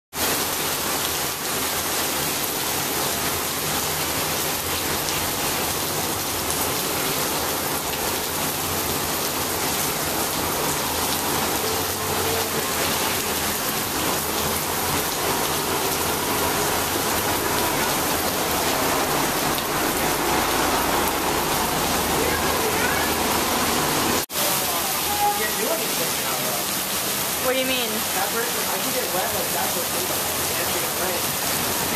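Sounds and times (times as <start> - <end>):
heavy rain on pavement: 0.1 - 31.9.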